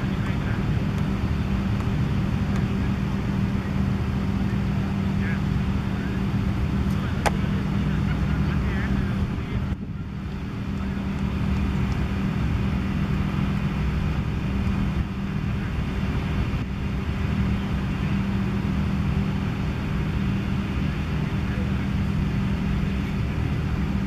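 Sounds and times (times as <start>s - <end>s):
continuous rumble: 0.0s - 24.0s
low mechanical hum: 0.0s - 24.0s.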